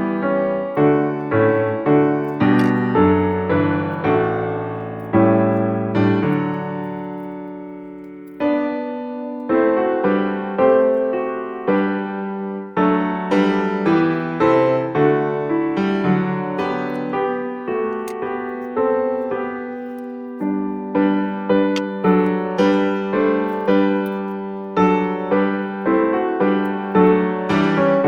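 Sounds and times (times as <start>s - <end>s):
slow piano music: 0.0s - 28.0s.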